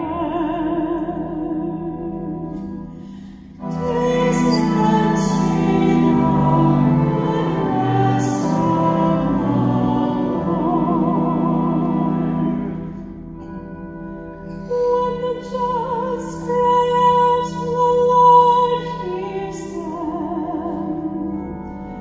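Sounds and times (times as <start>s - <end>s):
person singing with vibrato: 0.0s - 13.6s, 14.3s - 22.0s
sustained instrumental accompaniment: 0.0s - 22.0s.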